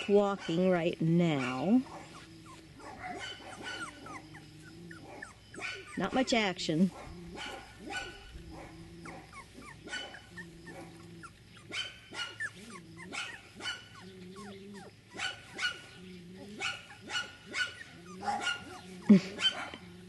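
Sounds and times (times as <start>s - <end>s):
puppies whimpering and squeaking: 0.0s - 20.0s
puppy grunting: 0.0s - 20.0s.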